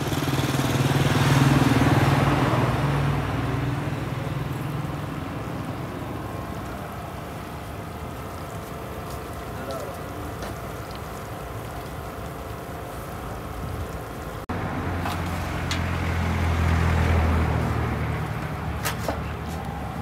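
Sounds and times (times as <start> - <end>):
street background: 0.0 - 20.0
vehicle engine rumble: 0.0 - 20.0.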